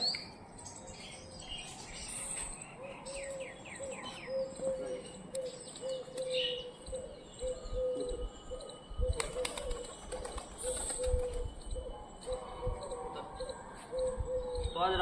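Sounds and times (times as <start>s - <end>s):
small cage birds chirping: 0.0s - 15.0s
pigeons cooing: 2.8s - 15.0s.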